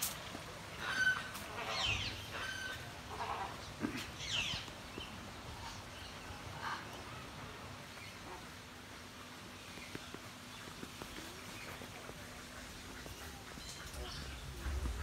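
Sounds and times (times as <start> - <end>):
birds calling: 0.7 - 8.7, 9.6 - 15.0.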